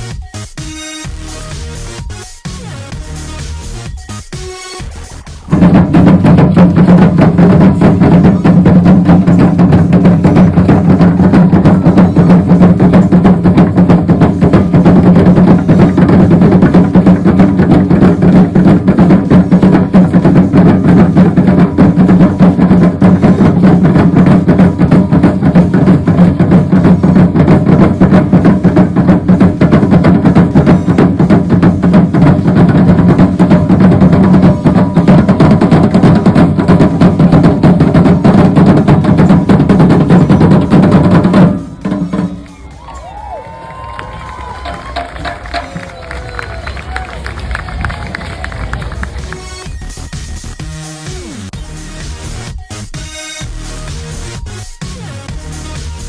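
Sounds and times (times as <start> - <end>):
loud fast drumming: 0.0 - 56.0.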